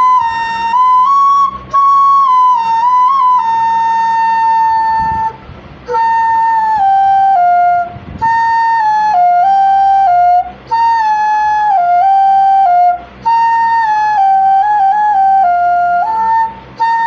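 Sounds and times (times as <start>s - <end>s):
flute playing held notes: 0.0s - 17.0s.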